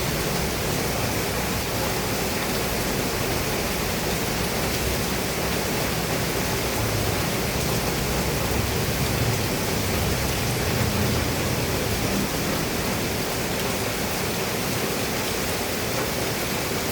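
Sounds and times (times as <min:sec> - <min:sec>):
heavy rain on a roof: 0:00.0 - 0:16.9.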